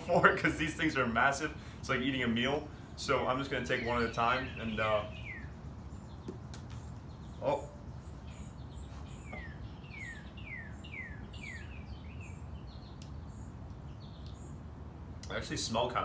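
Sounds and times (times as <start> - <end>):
low background noise: 0.0 - 16.0
songbird singing: 0.0 - 16.0.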